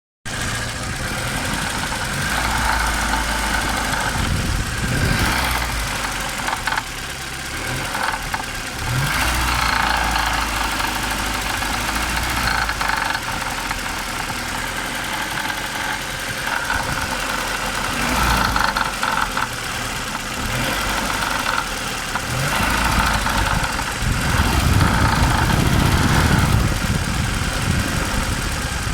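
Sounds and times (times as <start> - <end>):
car engine knocking and revving: 0.2 - 28.9.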